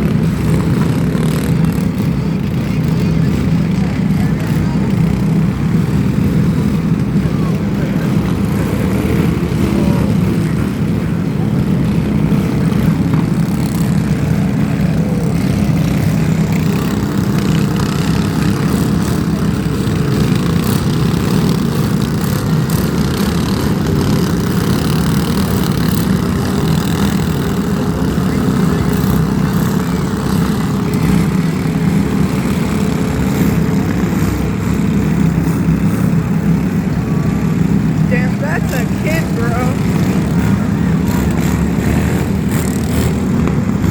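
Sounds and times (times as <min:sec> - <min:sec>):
vehicle engine droning: 0:00.0 - 0:43.9.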